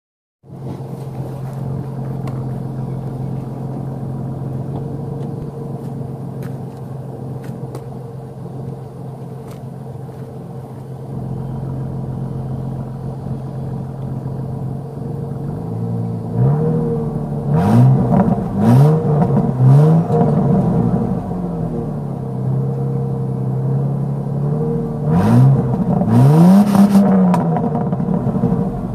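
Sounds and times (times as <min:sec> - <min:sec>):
car engine idling and revving: 0:00.4 - 0:28.9.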